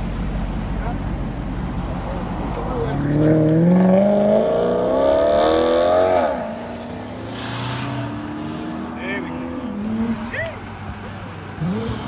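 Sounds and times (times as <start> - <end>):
sports car engine accelerating: 0.2 - 10.6.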